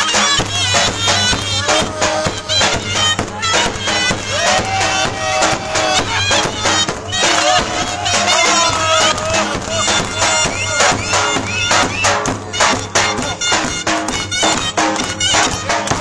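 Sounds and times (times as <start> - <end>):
bass drum beating: 0.0 - 16.0
reedy wind instrument melody: 0.0 - 16.0.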